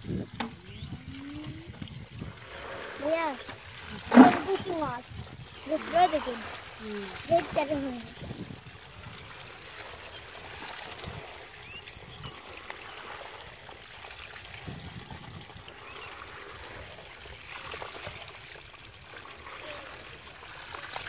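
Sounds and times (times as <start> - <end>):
shallow water trickling and splashing: 0.0 - 21.0.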